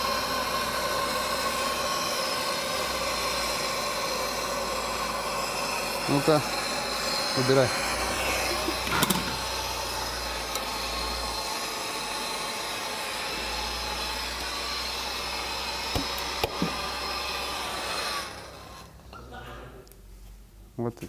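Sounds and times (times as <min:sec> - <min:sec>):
workshop hissing noise: 0:00.0 - 0:20.1.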